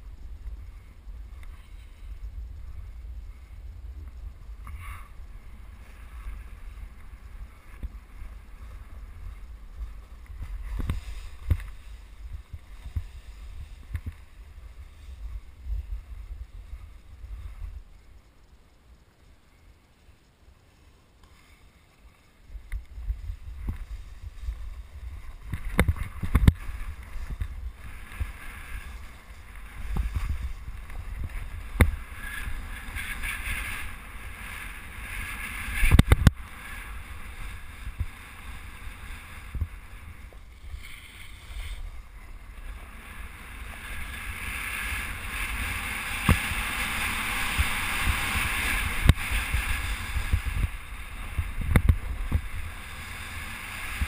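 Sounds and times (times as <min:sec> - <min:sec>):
wind buffeting microphone: 0:00.0 - 0:18.3, 0:22.5 - 0:54.0
snow scraping hiss: 0:00.0 - 0:54.0.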